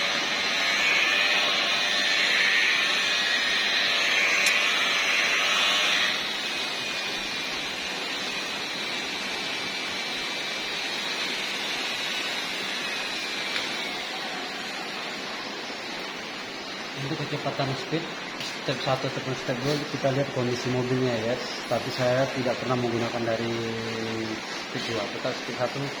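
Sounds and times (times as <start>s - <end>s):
machine polisher whirring: 0.0s - 15.3s, 19.5s - 25.2s.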